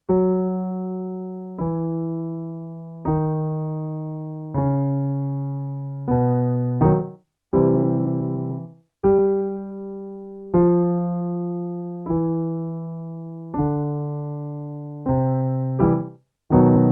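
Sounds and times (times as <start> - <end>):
piano chord: 0.0 - 16.9
piano playing descending scale: 0.1 - 16.9.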